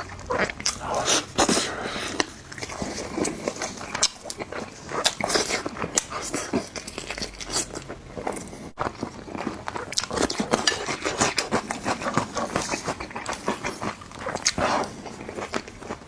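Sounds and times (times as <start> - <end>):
person chewing and smacking food: 0.0 - 16.0.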